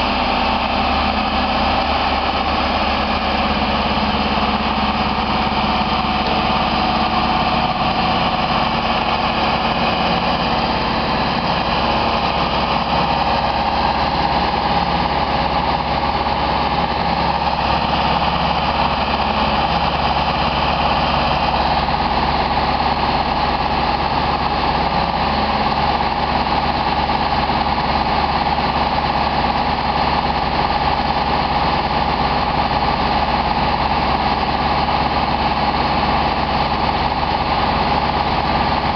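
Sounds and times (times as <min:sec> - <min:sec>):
boom lift engine running: 0:00.0 - 0:38.9.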